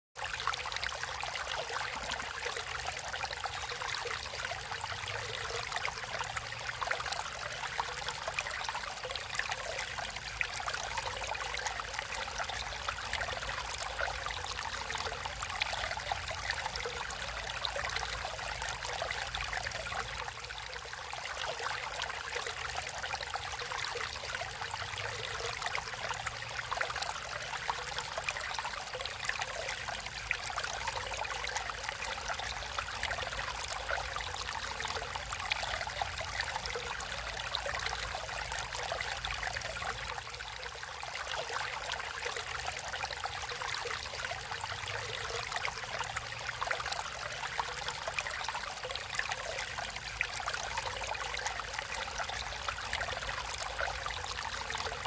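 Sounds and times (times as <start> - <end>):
stream flowing over rocks: 0.2 - 55.0.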